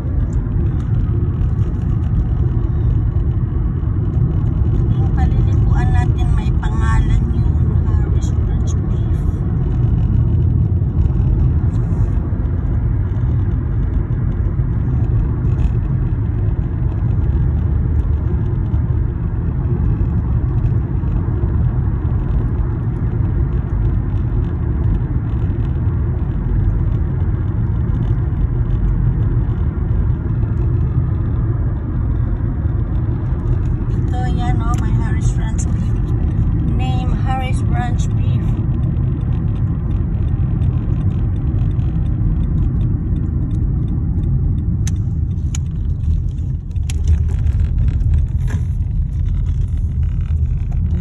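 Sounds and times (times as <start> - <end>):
car driving road rumble: 0.0 - 51.0.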